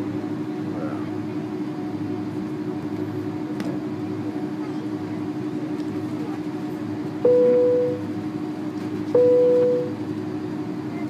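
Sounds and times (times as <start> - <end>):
jet engine cabin hum: 0.0 - 11.0.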